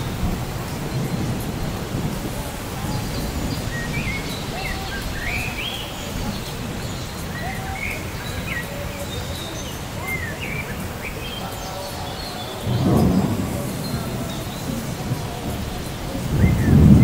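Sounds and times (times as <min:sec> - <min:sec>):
birds chirping: 0:00.0 - 0:17.0
light rain hiss: 0:00.0 - 0:17.0.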